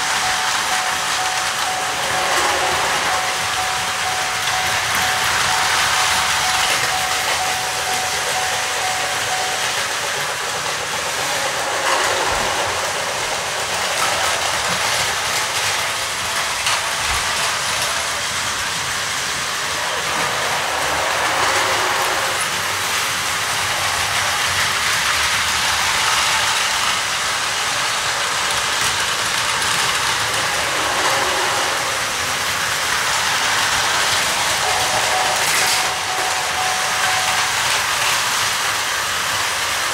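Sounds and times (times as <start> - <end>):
toy train motor whir: 0.0 - 39.9
wheel clatter on plastic track: 0.0 - 39.9.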